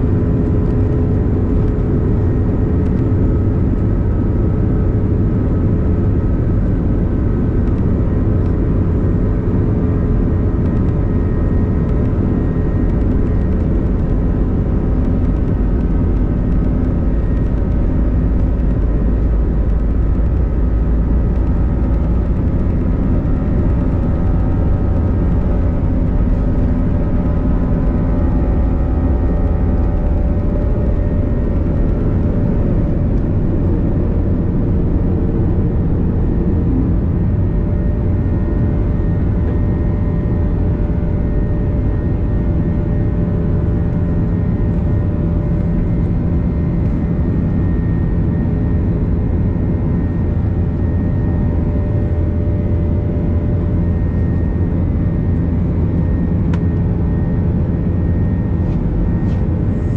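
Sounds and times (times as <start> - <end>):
jet engine rumble in cabin: 0.0 - 59.9.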